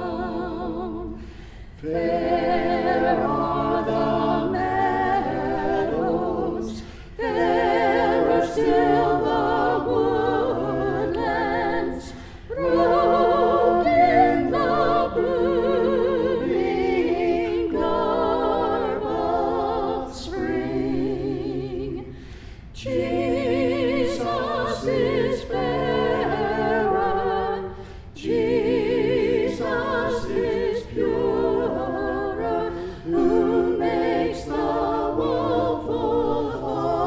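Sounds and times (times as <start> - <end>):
choir singing a hymn: 0.0 - 37.0.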